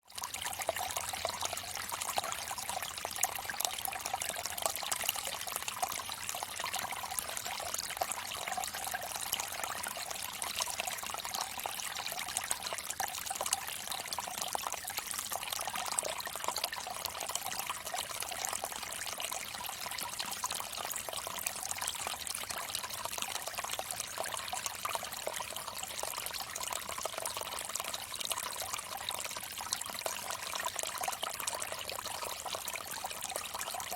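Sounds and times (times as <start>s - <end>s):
water trickling from fountain spout: 0.0s - 33.9s.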